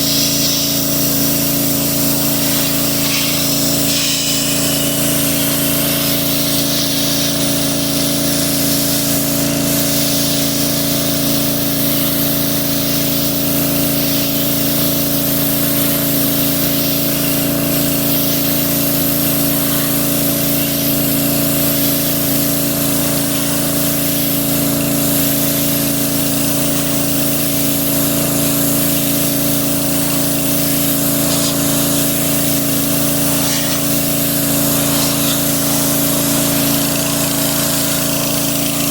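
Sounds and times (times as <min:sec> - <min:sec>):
pressure washer pump humming: 0:00.0 - 0:38.9
spray hissing: 0:00.0 - 0:38.9.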